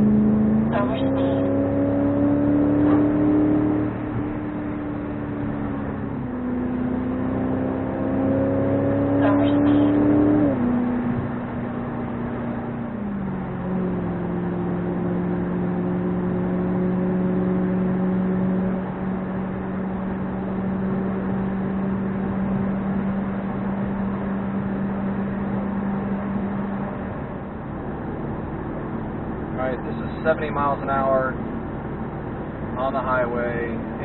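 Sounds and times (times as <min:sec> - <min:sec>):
car engine droning: 0:00.0 - 0:34.0
road and tyre noise: 0:00.0 - 0:34.0.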